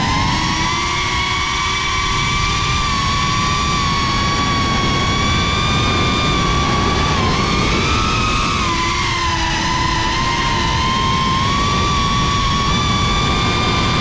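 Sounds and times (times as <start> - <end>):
drone motors whining: 0.0 - 14.0
wind buffeting microphone: 0.0 - 14.0.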